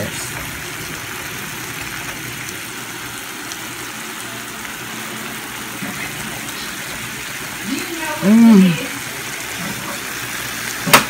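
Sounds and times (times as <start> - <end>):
eggplant sizzling in oil: 0.0 - 11.0.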